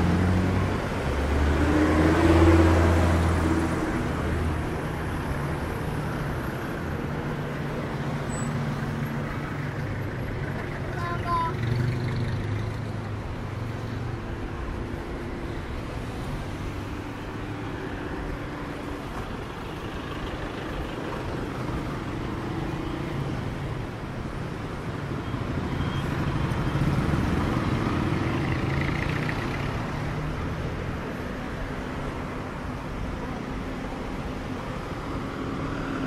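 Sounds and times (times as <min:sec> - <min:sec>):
passing vehicle engines: 0:00.0 - 0:36.0
steady road noise: 0:00.0 - 0:36.0.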